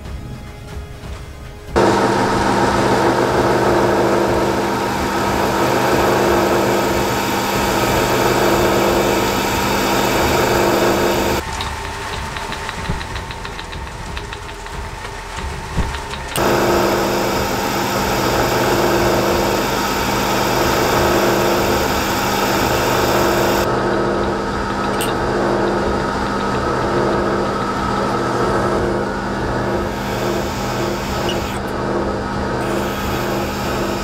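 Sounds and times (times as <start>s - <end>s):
milling machine motor hum: 1.7s - 34.0s
drill boring through steel: 1.8s - 12.6s, 16.1s - 34.0s.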